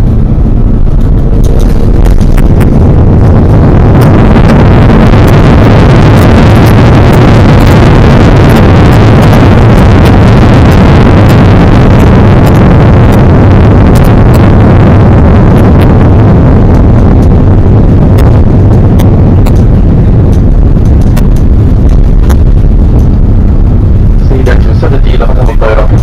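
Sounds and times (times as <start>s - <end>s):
jet engines in reverse thrust: 0.0s - 26.0s.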